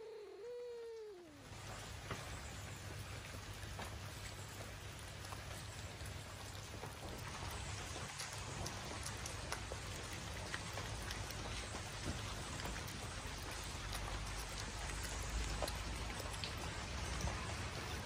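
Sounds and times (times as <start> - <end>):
steady rain falling: 0.6 - 18.0
ticks of raindrops: 0.8 - 18.0.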